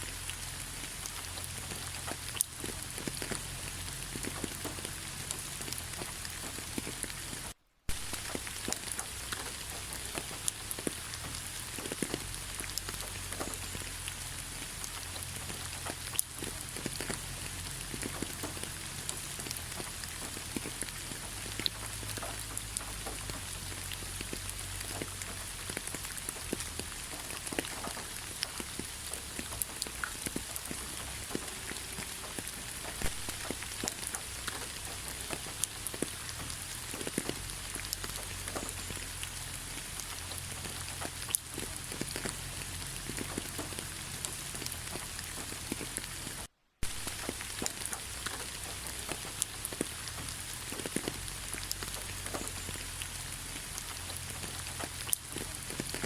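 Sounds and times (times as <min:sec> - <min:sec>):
steady rain falling: 0:00.0 - 0:56.0
raindrops ticking sharply: 0:00.1 - 0:56.0.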